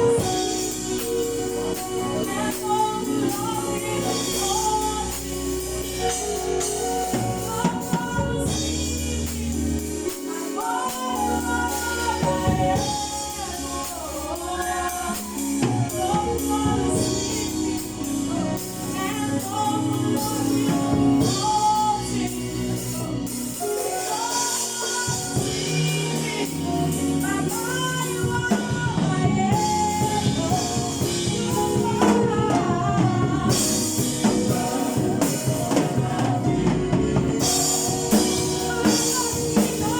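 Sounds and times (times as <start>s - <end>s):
bass: 0.0s - 39.9s
choir singing gospel: 0.0s - 39.9s
drums: 0.0s - 39.9s.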